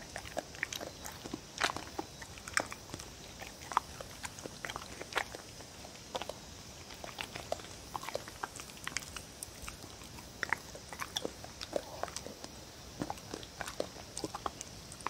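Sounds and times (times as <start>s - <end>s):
dog chewing and licking: 0.0s - 15.0s.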